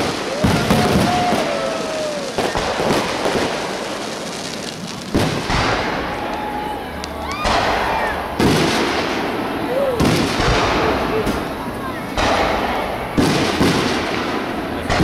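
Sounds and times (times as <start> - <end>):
firework booms: 0.0 - 15.0
fireworks crackling: 0.0 - 15.0
whistling fireworks: 0.0 - 15.0.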